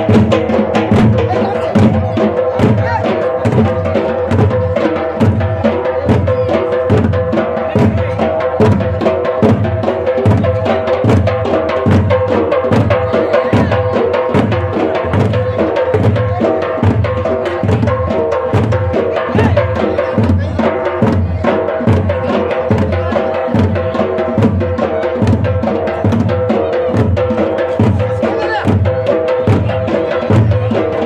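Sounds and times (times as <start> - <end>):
drum ensemble playing: 0.0 - 31.0.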